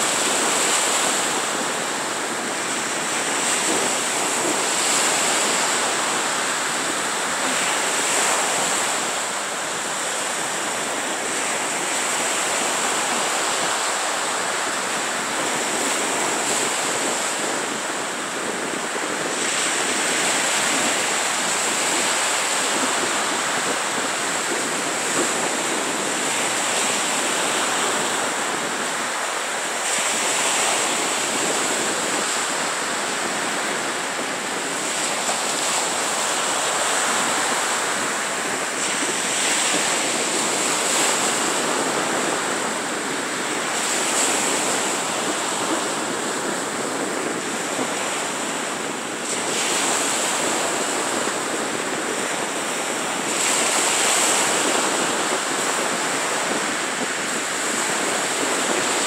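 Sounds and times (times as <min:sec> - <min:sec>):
waves washing onto sandy beach: 0:00.0 - 0:59.0.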